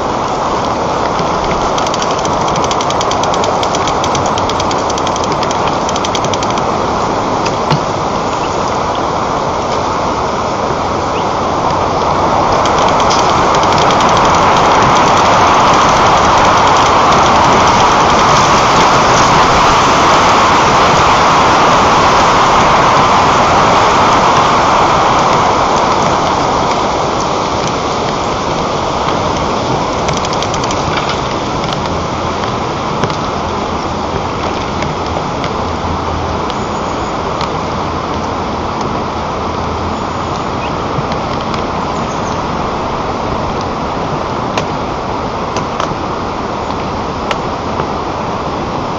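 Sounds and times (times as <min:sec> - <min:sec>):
strong wind on microphone: 0:00.0 - 0:48.9.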